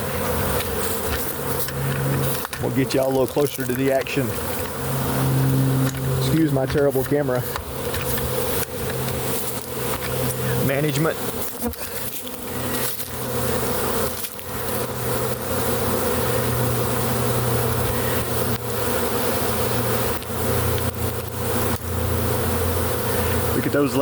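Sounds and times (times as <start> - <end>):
honey bee swarm buzzing: 0.0 - 24.0.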